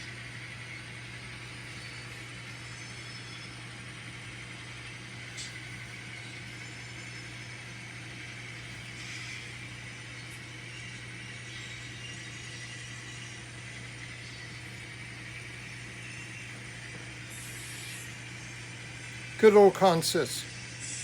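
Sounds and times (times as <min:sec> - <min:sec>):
model train diesel engine sound: 0:00.0 - 0:21.0.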